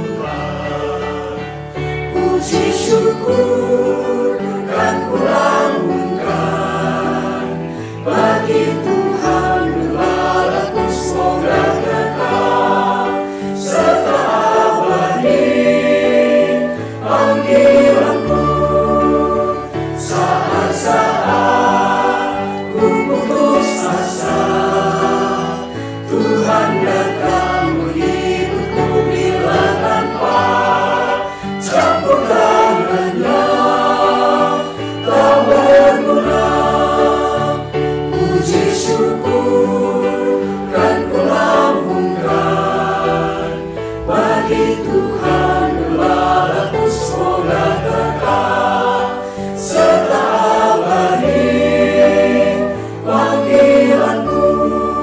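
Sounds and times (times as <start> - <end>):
choir singing a hymn: 0.0 - 55.0
keyboard: 0.0 - 55.0
violin: 0.0 - 55.0.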